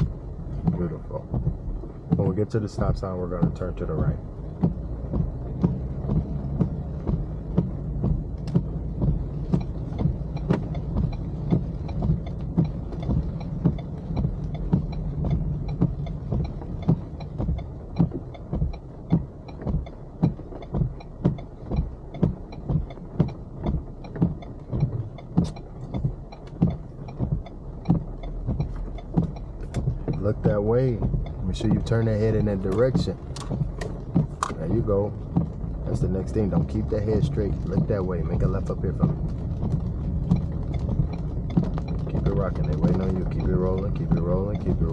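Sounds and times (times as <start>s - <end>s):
car engine and tyres hum: 0.0s - 44.9s
turn signal relay ticking: 0.0s - 44.9s.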